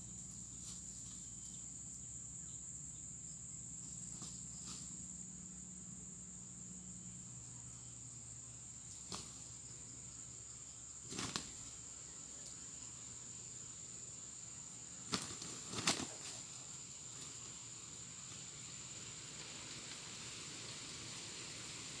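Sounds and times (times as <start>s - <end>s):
high-pitched insect drone: 0.0s - 19.1s.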